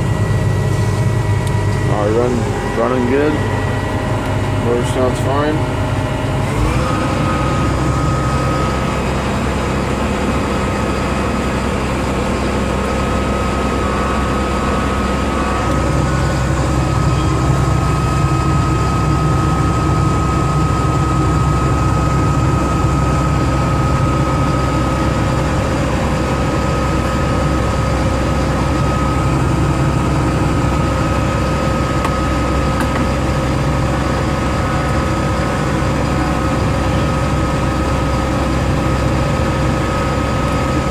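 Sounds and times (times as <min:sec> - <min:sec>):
diesel engine droning: 0:00.0 - 0:40.9
high engine whine: 0:00.0 - 0:40.9.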